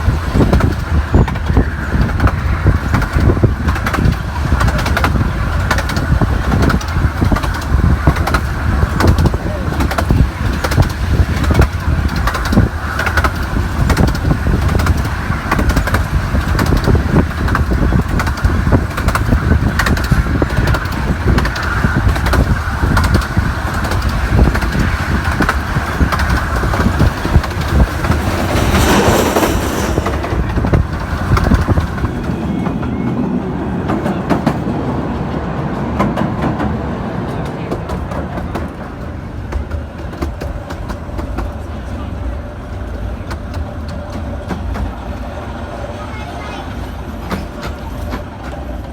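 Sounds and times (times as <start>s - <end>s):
miniature train rumbling: 0.0s - 48.9s
wheels clicking on track: 0.0s - 48.9s.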